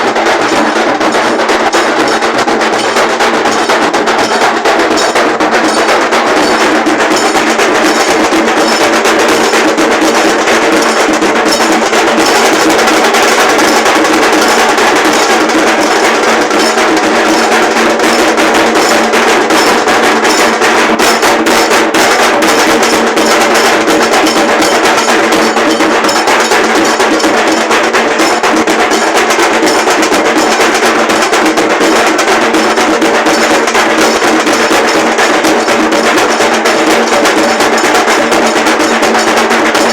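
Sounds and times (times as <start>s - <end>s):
dhol drums playing: 0.0s - 39.9s.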